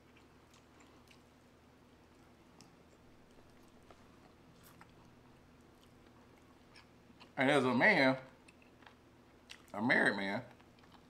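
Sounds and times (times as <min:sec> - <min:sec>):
people chewing: 0:00.0 - 0:07.4, 0:08.3 - 0:09.8, 0:10.5 - 0:11.0
low steady hum: 0:00.0 - 0:11.0.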